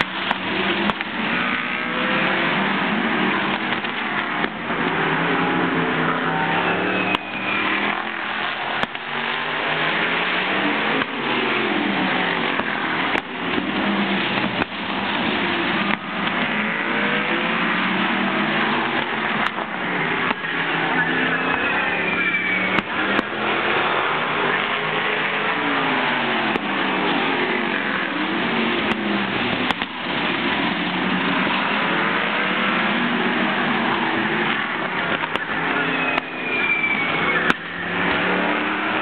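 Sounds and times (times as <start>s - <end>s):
racing car engines passing: 0.0s - 39.0s.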